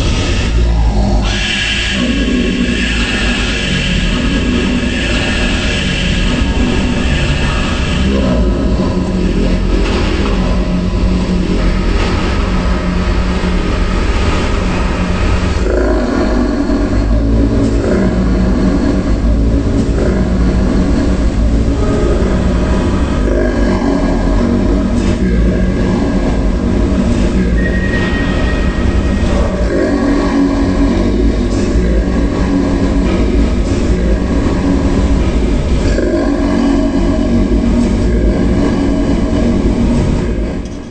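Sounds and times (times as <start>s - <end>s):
deep demonic drone: 0.0s - 40.9s
heavy low rumble: 0.0s - 40.9s.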